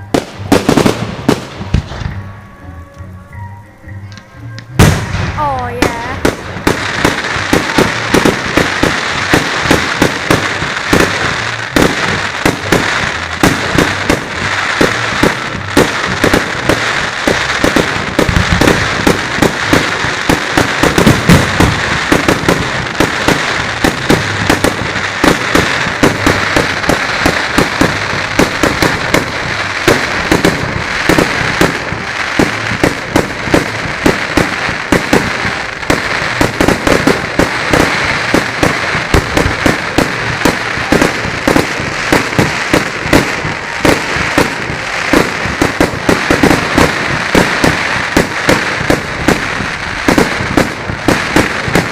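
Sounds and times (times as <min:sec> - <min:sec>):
fireworks bangs and crackles: 0:00.0 - 0:02.4, 0:04.1 - 0:51.9.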